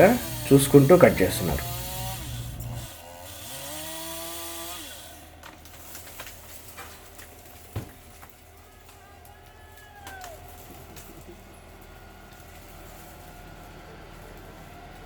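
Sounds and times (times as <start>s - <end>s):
power saw cutting a tree limb: 0.0s - 15.0s.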